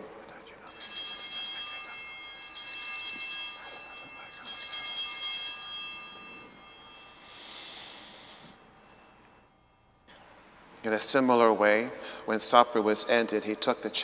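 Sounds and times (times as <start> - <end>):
altar bells ringing: 0.7 - 14.0.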